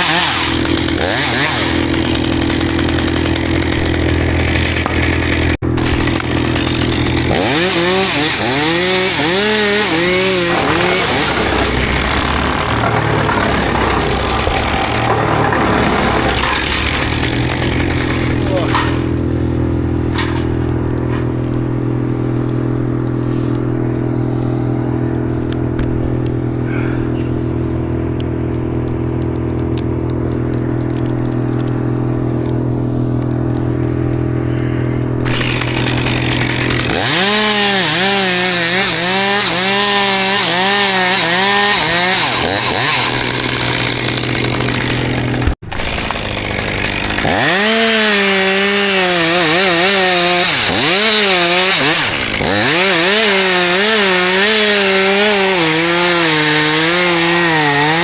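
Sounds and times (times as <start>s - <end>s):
chainsaw idling and cutting wood: 0.0s - 58.0s.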